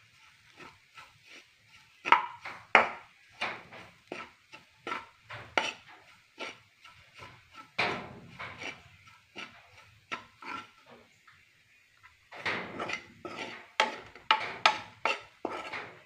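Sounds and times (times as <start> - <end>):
metal spoon scraping frying pan: 0.0 - 16.0.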